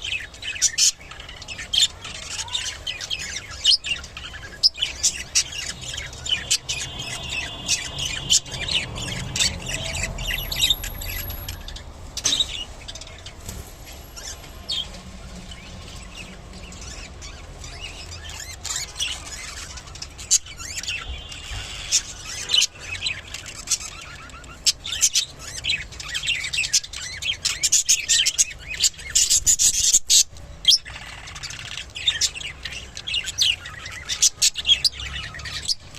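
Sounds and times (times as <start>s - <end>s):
budgerigars chirping: 0.0s - 13.3s, 14.0s - 35.9s.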